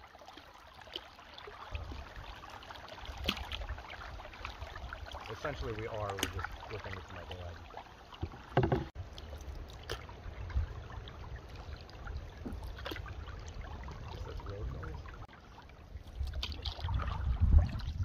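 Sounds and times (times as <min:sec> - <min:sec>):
paddle strokes in water: 0:00.0 - 0:18.0.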